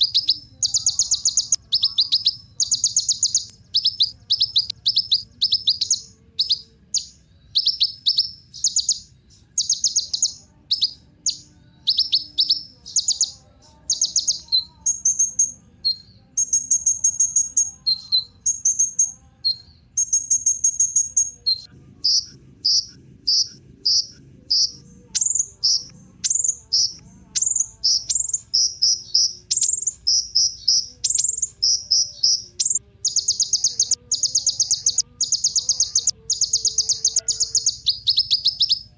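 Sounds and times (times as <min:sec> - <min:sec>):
sunbird chirping and trilling: 0:00.0 - 0:38.9.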